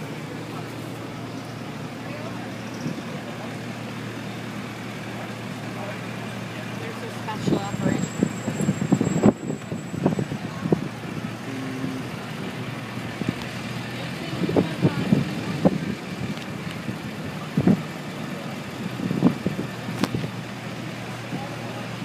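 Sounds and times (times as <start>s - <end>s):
vehicles rolling slowly past: 0.0s - 22.0s.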